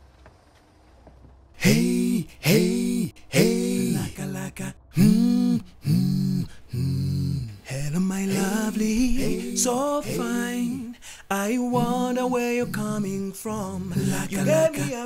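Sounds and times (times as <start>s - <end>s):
person singing unaccompanied: 1.6s - 15.0s.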